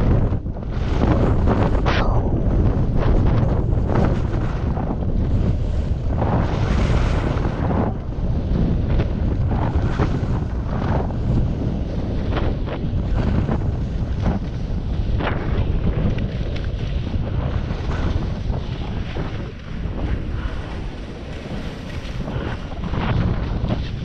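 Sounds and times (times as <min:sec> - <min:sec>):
wind rushing over microphone: 0:00.0 - 0:24.0
skis scraping on snow: 0:00.1 - 0:24.0.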